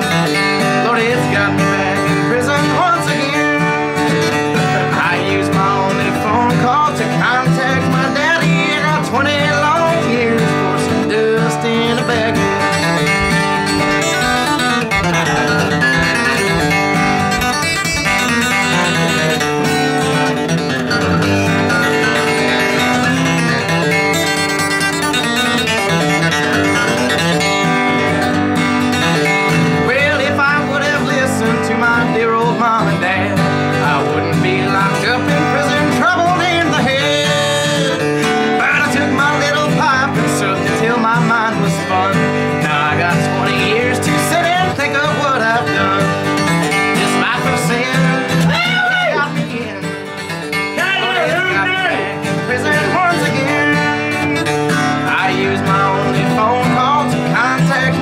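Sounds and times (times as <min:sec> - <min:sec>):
country music with acoustic guitar: 0:00.0 - 0:58.0.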